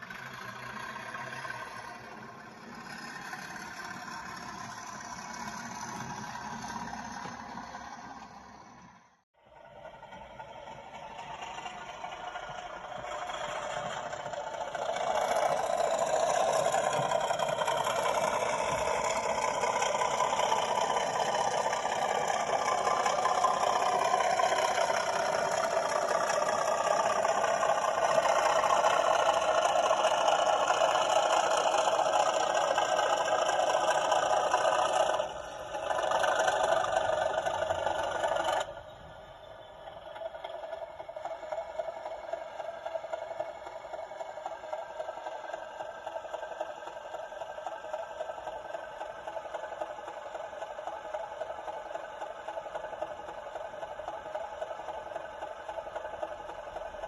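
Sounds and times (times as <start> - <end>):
model locomotive engine sound: 0.0 - 57.0.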